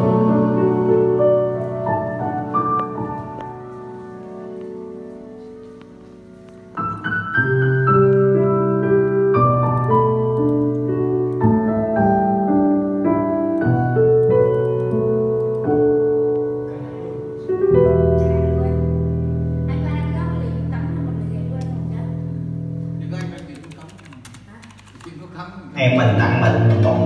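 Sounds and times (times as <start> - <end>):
piano karaoke backing track: 0.0 - 25.0, 25.7 - 27.0.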